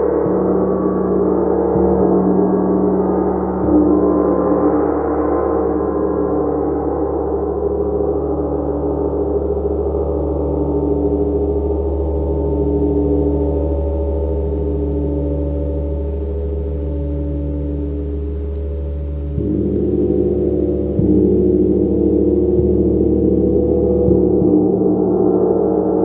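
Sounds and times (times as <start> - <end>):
large gong ringing: 0.0 - 26.0.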